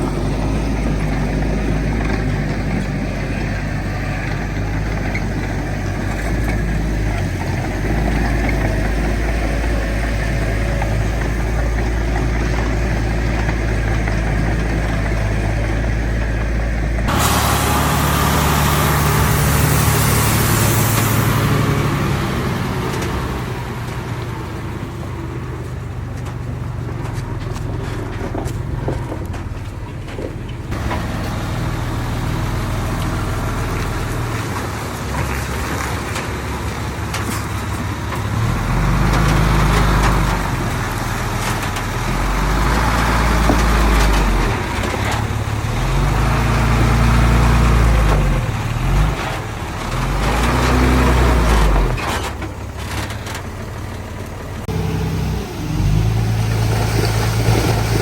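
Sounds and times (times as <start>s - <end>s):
heavy diesel engine labouring: 0.0s - 58.0s.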